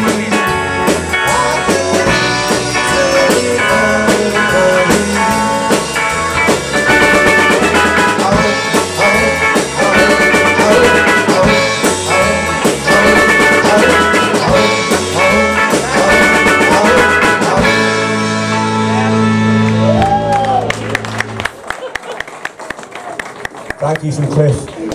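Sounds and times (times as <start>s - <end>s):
live rock band playing: 0.0s - 21.8s.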